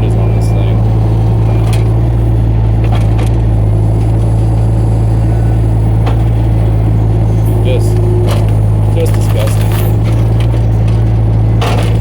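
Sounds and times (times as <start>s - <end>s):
excavator engine droning: 0.0s - 12.0s.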